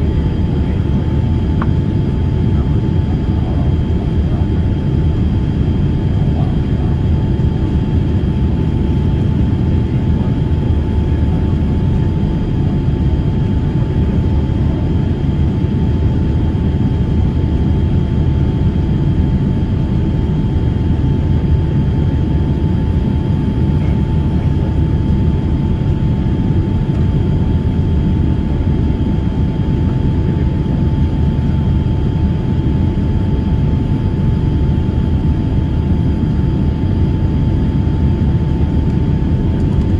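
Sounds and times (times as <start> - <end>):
airliner engines rumbling: 0.0 - 39.9
faint steady whines: 0.0 - 39.9.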